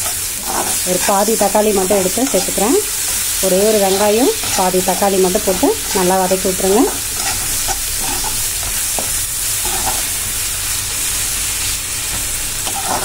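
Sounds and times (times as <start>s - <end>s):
onion and tomato sizzling in oil: 0.0s - 13.0s.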